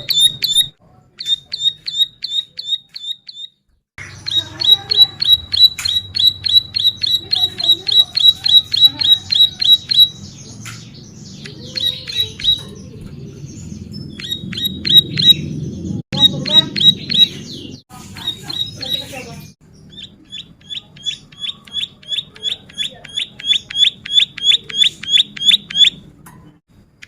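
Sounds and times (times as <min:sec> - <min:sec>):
small bird chirping song: 0:00.0 - 0:26.5.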